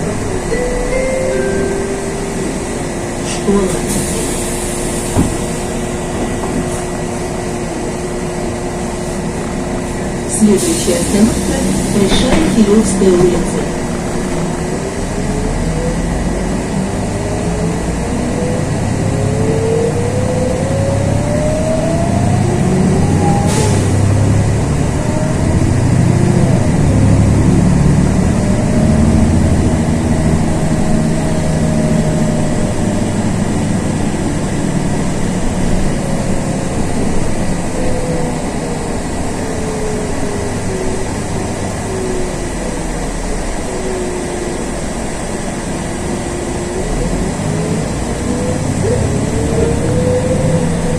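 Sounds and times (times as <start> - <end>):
bus engine rumble: 0.0 - 50.9.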